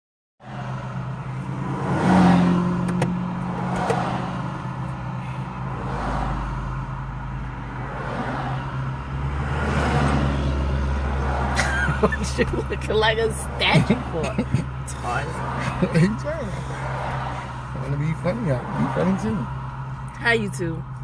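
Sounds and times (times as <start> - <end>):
car engine and road noise: 0.4 - 21.0.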